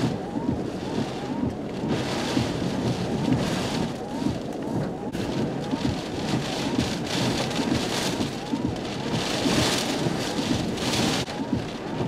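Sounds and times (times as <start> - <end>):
heavy rain: 0.0 - 12.0
strong wind: 0.0 - 12.0.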